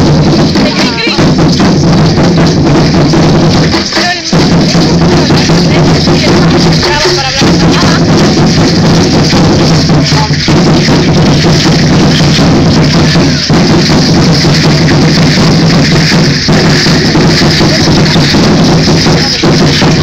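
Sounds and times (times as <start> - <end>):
large drums beating: 0.0 - 20.0
rattles shaking: 0.4 - 20.0.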